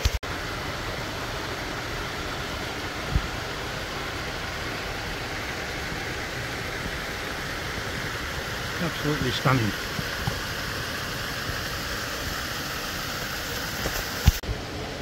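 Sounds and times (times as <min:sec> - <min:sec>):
waterfall rushing into a pool: 0:00.0 - 0:15.0.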